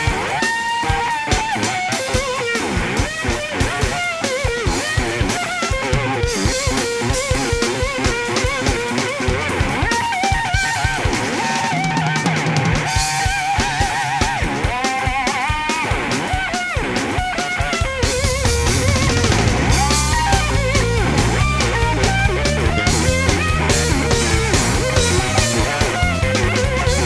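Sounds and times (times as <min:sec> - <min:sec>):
bass: 0:00.0 - 0:14.8, 0:15.9 - 0:27.0
drum kit: 0:00.0 - 0:27.0
electric slide guitar lead: 0:00.0 - 0:27.0.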